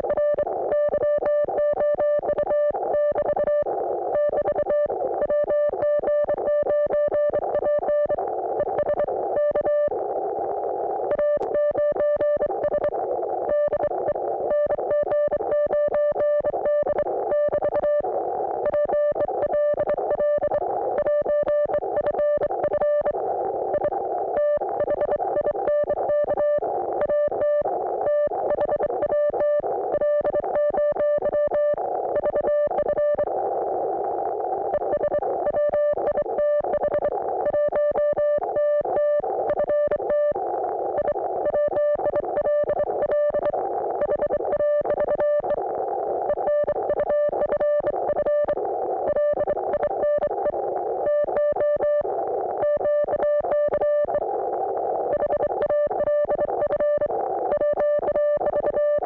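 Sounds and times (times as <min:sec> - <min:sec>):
receiver hiss: 0:00.1 - 0:59.0.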